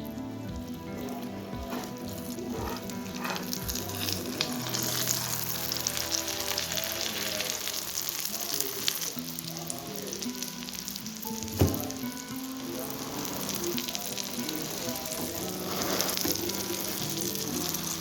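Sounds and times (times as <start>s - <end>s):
omelette sizzling in oil: 0.1s - 18.0s.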